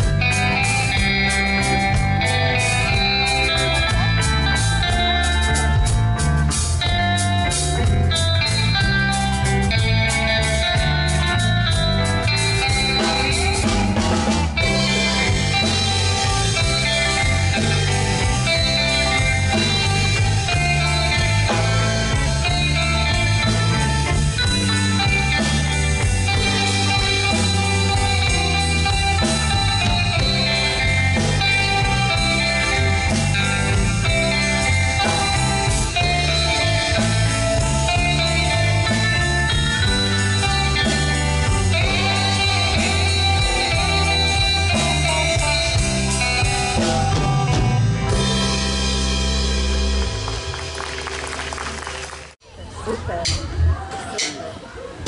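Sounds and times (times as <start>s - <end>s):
drum kit: 0.0s - 52.4s
electric guitars: 0.0s - 52.4s
bass guitar: 0.0s - 53.9s.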